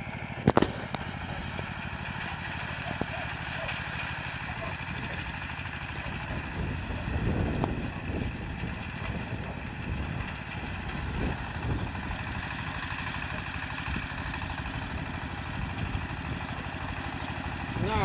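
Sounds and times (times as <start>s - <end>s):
rotary tiller in soil: 0.0s - 18.0s
tractor engine running: 0.0s - 18.0s.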